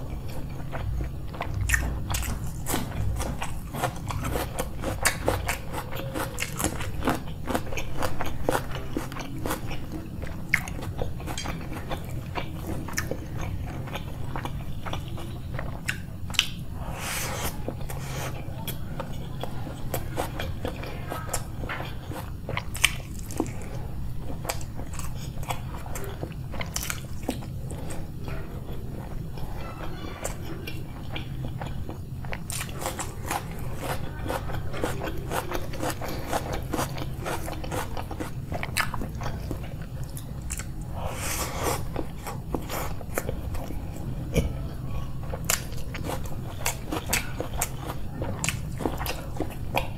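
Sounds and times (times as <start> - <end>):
person chewing: 0.0 - 49.9.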